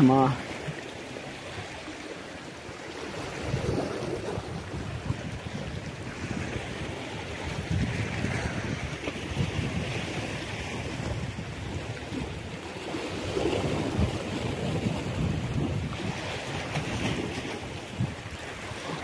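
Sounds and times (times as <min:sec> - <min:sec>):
surf on rocks: 0:00.0 - 0:19.0
wind buffeting microphone: 0:02.7 - 0:19.0.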